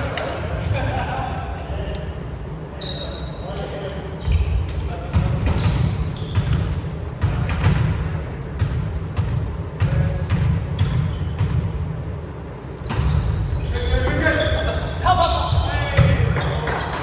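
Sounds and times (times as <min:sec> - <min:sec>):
shoes squeaking on court: 0:02.2 - 0:07.8, 0:08.6 - 0:17.0.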